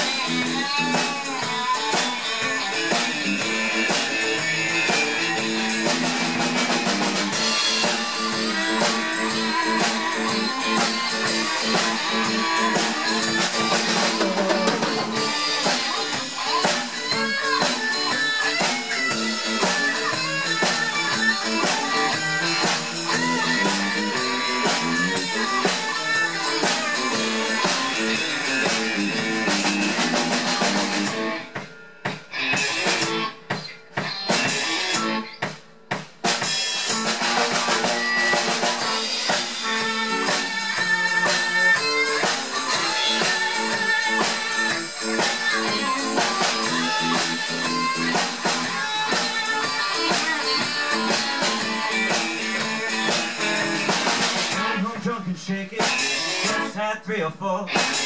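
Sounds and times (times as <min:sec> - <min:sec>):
lead guitar bending notes: 0:00.0 - 0:35.5, 0:36.5 - 0:55.1
drum kit: 0:00.0 - 0:57.0, 0:57.7 - 0:58.0
rhythm guitar: 0:00.0 - 0:58.0.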